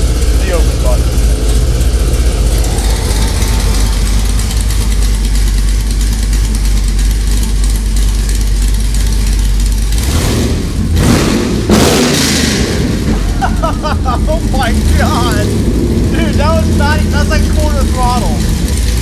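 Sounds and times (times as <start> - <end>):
car engine idling loud: 0.0 - 19.0.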